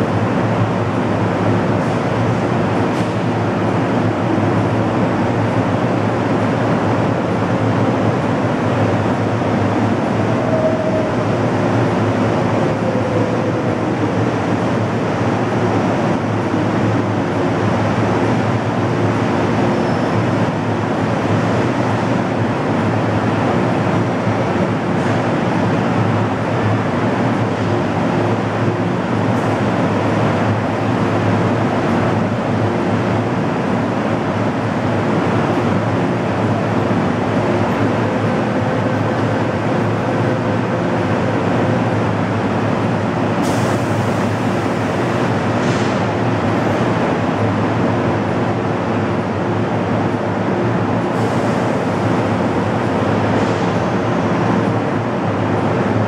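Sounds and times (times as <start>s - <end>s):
train humming at a platform: 0.0s - 56.0s.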